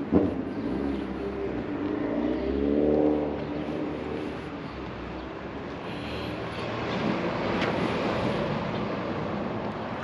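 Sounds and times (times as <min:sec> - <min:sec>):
vehicle passing: 0:00.0 - 0:10.0.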